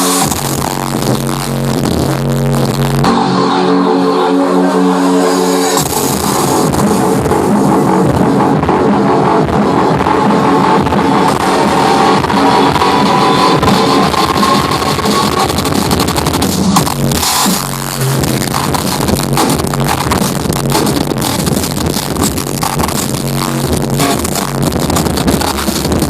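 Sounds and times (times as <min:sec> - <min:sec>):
loud electronic dance music: 0:00.0 - 0:26.0.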